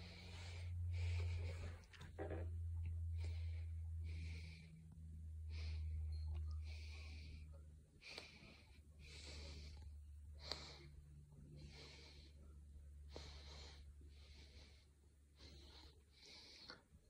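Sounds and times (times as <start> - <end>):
faint breathing: 0.0 - 17.0
low steady hum: 0.0 - 17.0.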